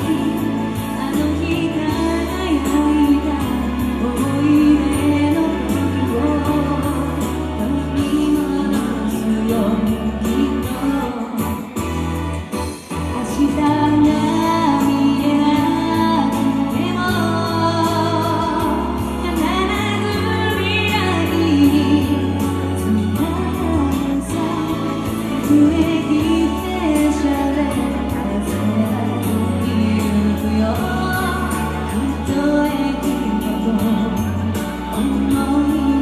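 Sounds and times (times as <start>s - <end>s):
band backing with drums and bass: 0.0s - 36.0s
woman singing pop song: 0.0s - 36.0s.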